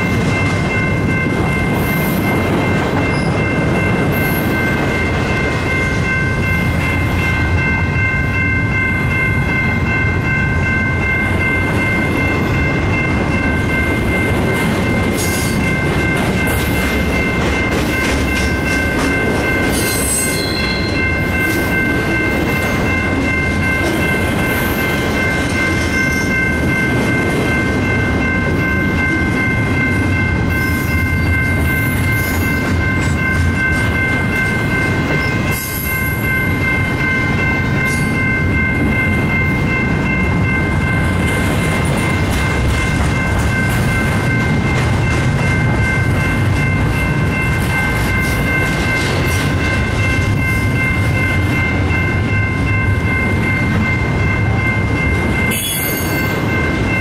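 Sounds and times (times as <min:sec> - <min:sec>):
crossing signal bell ringing: 0:00.0 - 0:57.0
train wheels rumbling on rails: 0:00.0 - 0:57.0.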